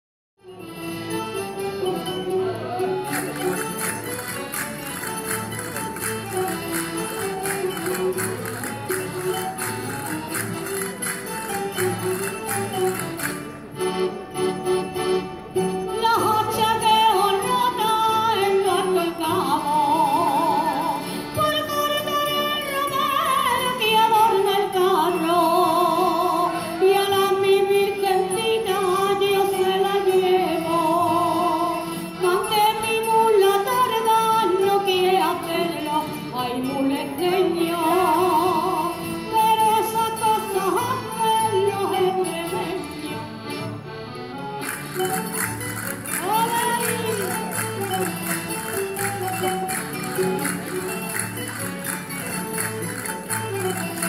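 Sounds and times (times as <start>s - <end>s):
folk dance melody with vibrato: 0.4s - 54.0s.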